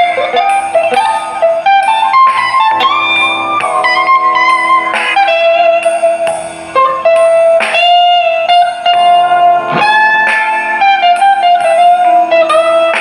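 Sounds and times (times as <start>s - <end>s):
guitar plucked single notes: 0.0s - 13.0s.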